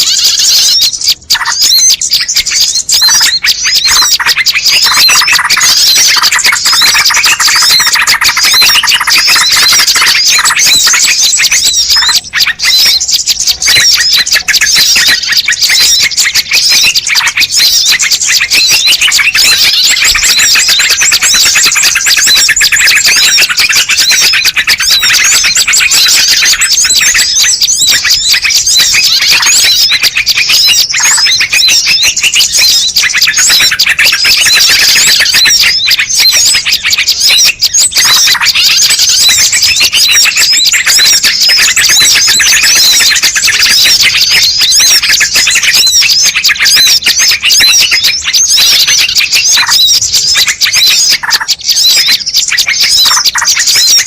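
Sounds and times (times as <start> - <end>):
small birds chirping chorus: 0.0 - 54.0.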